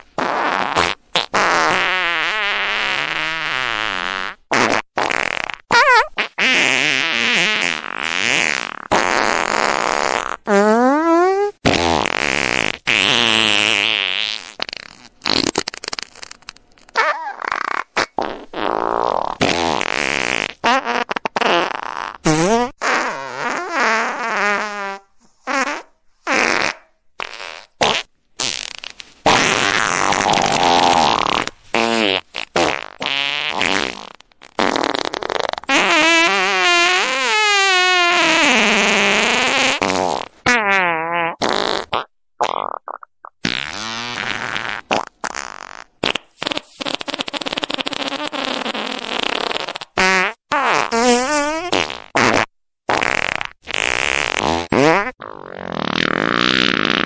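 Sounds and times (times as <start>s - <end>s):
fart sounds: 0.0s - 57.0s.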